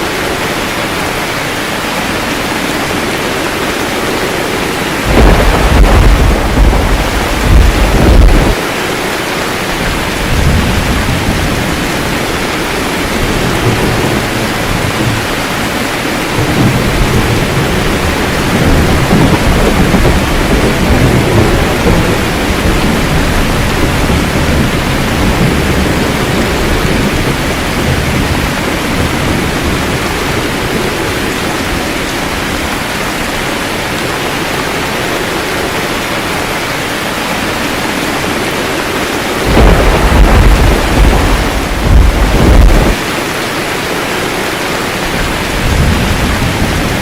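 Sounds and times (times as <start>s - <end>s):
steady rain falling: 0.0s - 47.0s
thunder rumbling: 0.9s - 36.5s, 37.5s - 47.0s.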